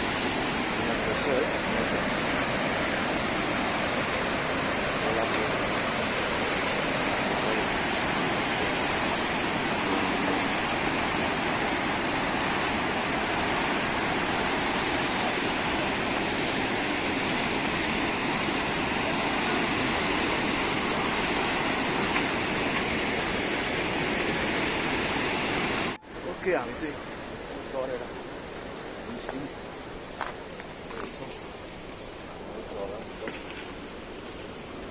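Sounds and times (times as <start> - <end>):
river rushing: 0.0 - 34.9.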